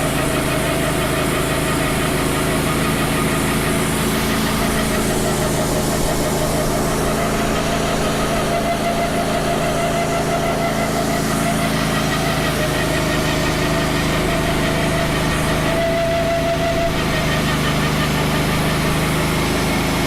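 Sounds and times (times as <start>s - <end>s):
bandsaw blade whine: 0.0s - 20.0s
sawmill engine drone: 0.0s - 20.0s.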